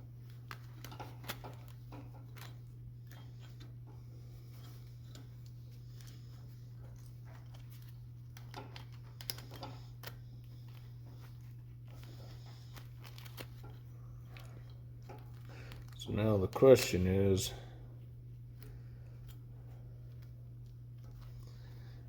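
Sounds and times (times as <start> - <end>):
wire rope clicking and rustling: 0.0 - 17.4, 18.4 - 22.0
steady low hum: 0.0 - 22.0.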